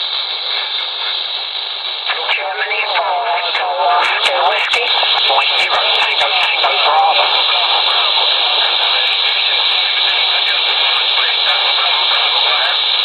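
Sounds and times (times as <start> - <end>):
radio hiss and static: 0.0 - 13.0
weak voice over radio: 0.4 - 1.3, 2.1 - 13.0.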